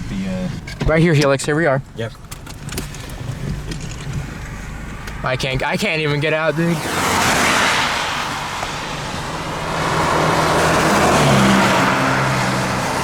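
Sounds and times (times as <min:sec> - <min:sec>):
car engine hum: 0:00.0 - 0:13.0
road and wind noise: 0:00.0 - 0:13.0.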